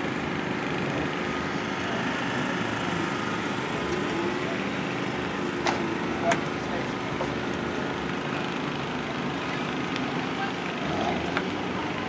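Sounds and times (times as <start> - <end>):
race car engine idling: 0.0 - 12.0.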